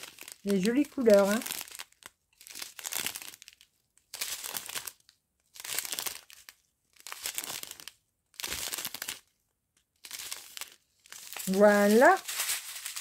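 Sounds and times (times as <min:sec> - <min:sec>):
plastic sachets crinkling: 0:00.0 - 0:09.4, 0:10.0 - 0:13.0.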